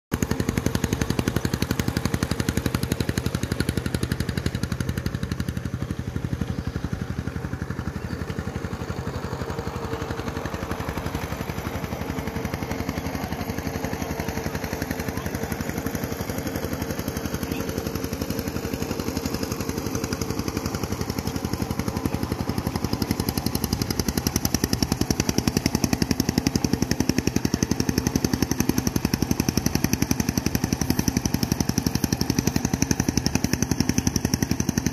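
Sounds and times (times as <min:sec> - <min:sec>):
small engine rattling: 0:00.1 - 0:34.9.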